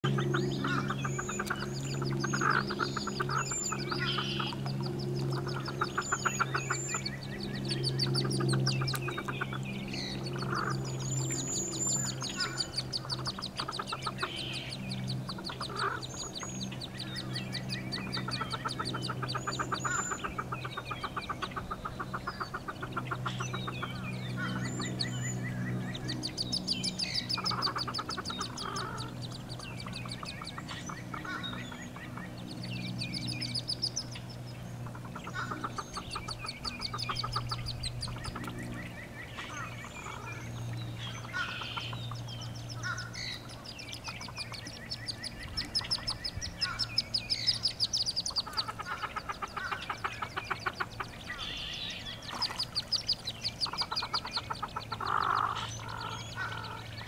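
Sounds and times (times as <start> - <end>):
steady low drone: 0.0 - 57.0
bird trills: 0.1 - 57.0
high bird chirps: 0.1 - 57.0.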